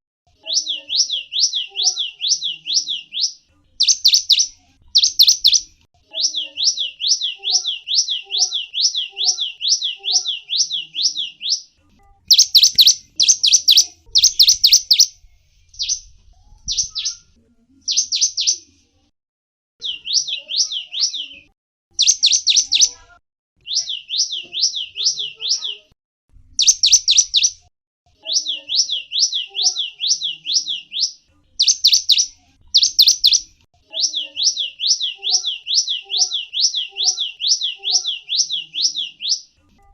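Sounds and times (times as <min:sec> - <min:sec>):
songbird chirping: 0:00.3 - 0:19.1, 0:19.8 - 0:39.9.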